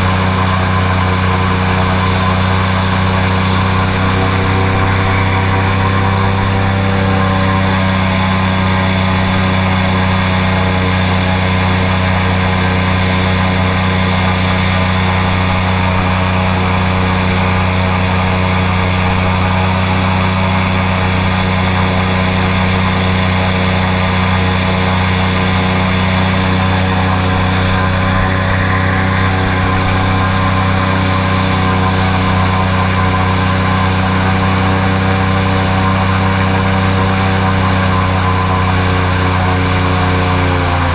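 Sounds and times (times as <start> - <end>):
airboat engine and propeller drone: 0.0 - 40.9.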